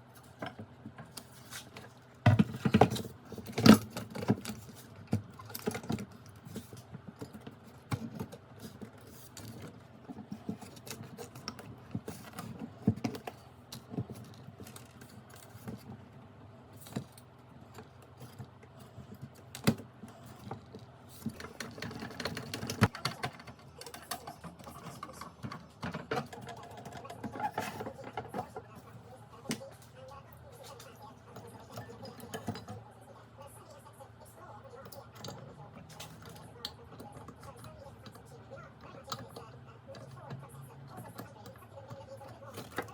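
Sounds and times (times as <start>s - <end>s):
clicks and rattles of small parts: 0.0s - 16.0s, 16.8s - 29.7s, 34.9s - 42.9s.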